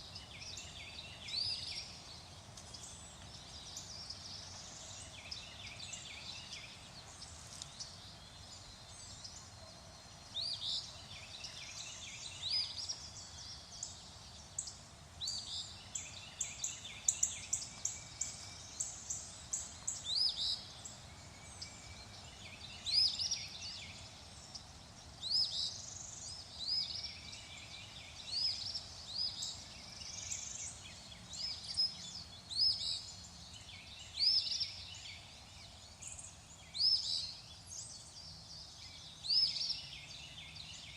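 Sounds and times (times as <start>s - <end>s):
birds chirping: 0.0s - 40.9s
faint background hiss: 0.0s - 40.9s.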